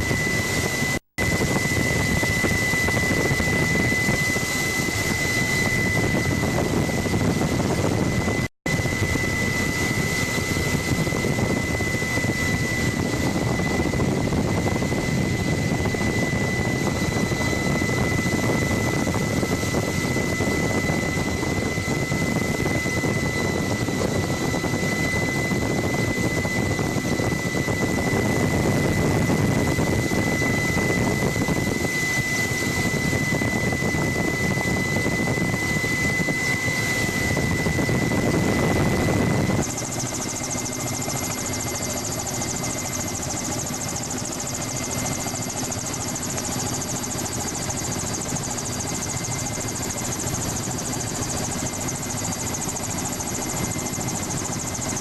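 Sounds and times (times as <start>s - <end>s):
helicopter engine and rotor noise: 0.0s - 55.0s.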